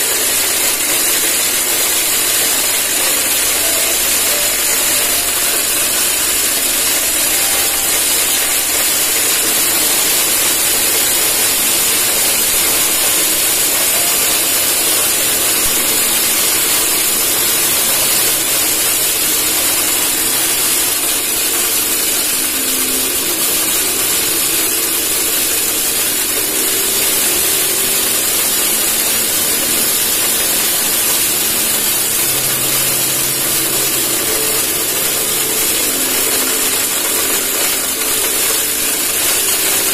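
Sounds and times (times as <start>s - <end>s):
motorized corn cracker grinding: 0.0s - 39.9s.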